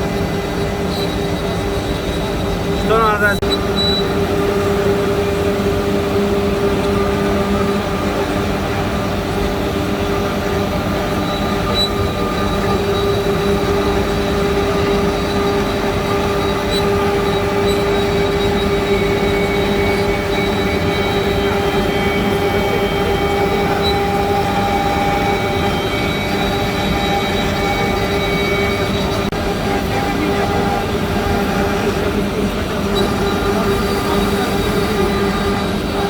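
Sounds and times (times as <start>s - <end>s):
grinding of metal cutting: 0.0s - 36.0s
milling spindle whine: 0.0s - 36.0s.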